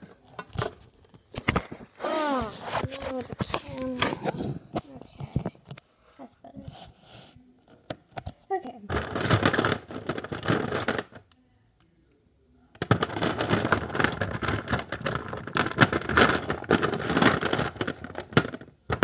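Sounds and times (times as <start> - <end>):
plastic toys rustling and clicking: 0.0 - 5.8, 7.7 - 11.3, 12.8 - 19.0.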